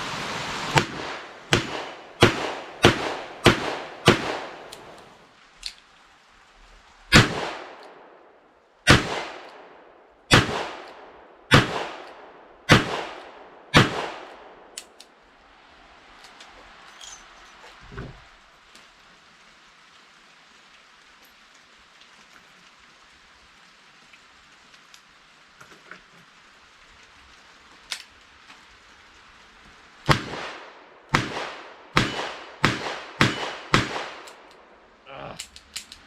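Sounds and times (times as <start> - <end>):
heavy rain hissing: 0.0 - 36.0.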